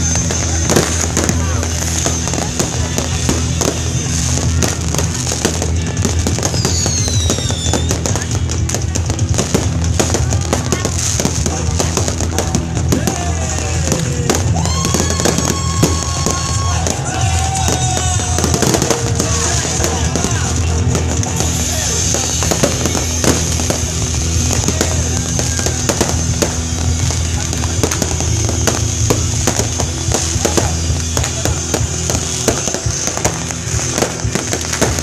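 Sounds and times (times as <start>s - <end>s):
fireworks crackling and popping: 0.0s - 35.0s.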